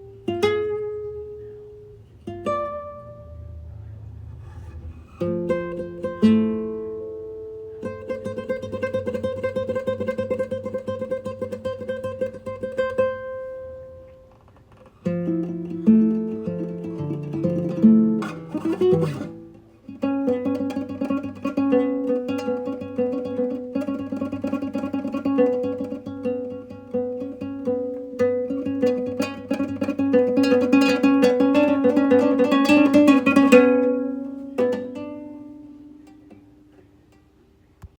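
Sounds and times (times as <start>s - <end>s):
plucked string instrument music: 0.0s - 38.0s.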